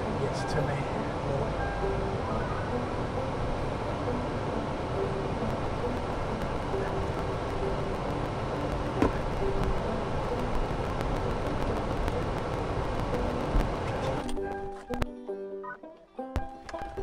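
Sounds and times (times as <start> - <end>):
air conditioning blowing: 0.0 - 14.9.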